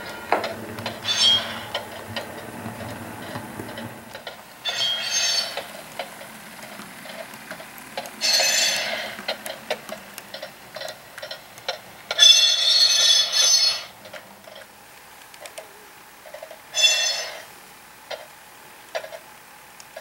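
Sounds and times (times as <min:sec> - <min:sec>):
model train wheels clacking: 0:00.0 - 0:20.0.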